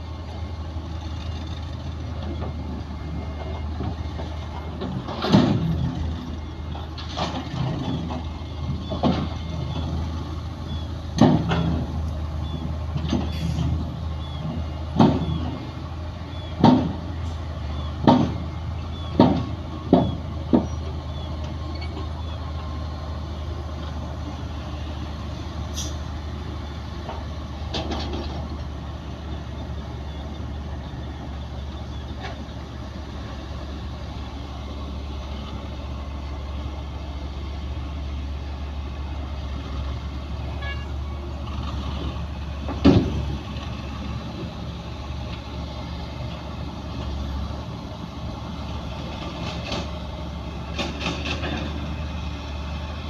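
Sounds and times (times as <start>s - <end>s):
diesel machinery engine drone: 0.0s - 53.0s.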